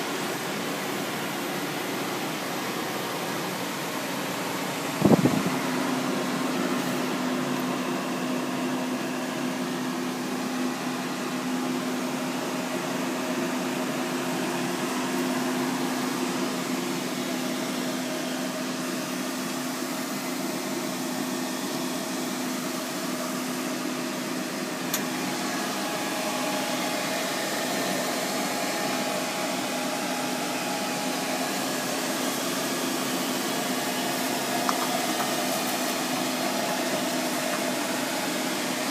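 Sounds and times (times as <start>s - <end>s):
cooling fans whirring: 0.0s - 38.9s.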